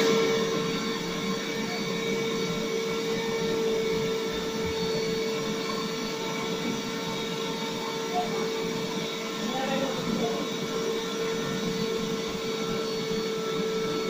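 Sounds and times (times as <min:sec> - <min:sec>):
citrus juicer motor whirring: 0:00.0 - 0:14.0.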